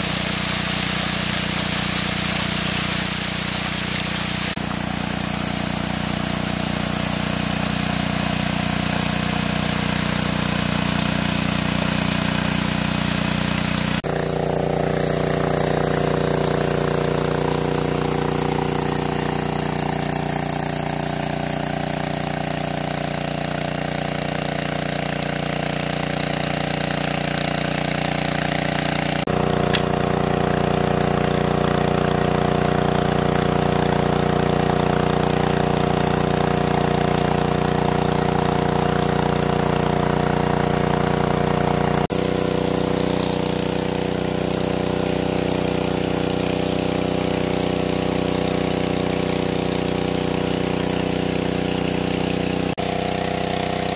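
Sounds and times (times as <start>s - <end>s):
water pump engine running: 0.0s - 53.9s.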